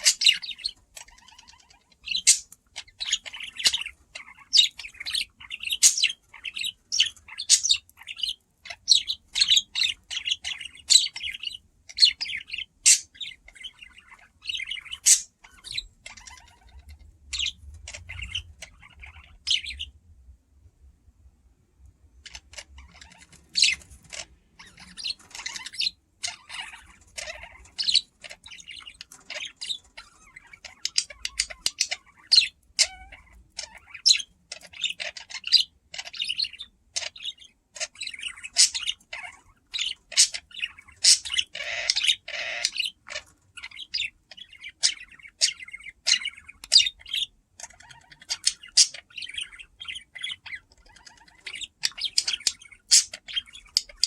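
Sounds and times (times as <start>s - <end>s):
budgerigars chirping and chattering: 0.0s - 20.0s, 22.0s - 54.0s.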